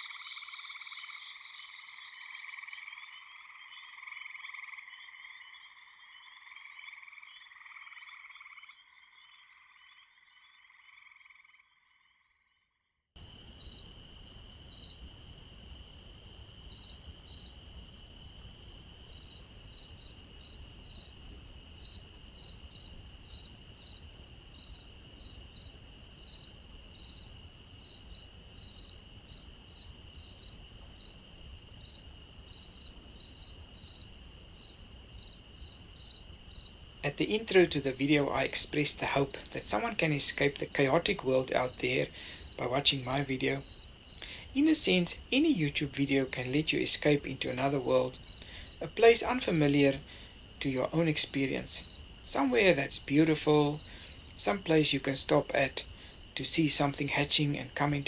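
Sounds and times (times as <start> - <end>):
insects trilling and chirping: 0.0 - 12.5, 13.2 - 58.0
frogs croaking: 0.0 - 58.0.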